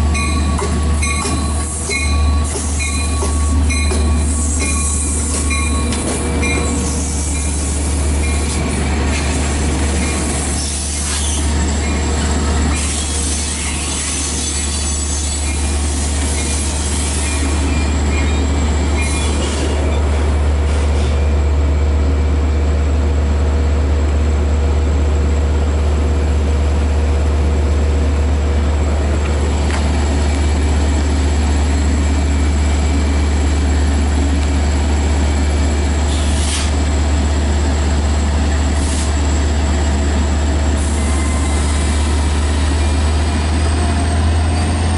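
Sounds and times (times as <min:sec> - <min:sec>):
wheel and rail noise: 0:00.0 - 0:21.3, 0:26.5 - 0:44.9
diesel train rumble: 0:00.0 - 0:44.9.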